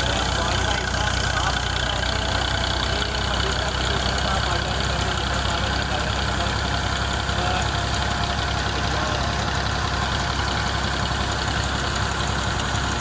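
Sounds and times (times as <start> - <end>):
tractor engine drone: 0.0 - 13.0.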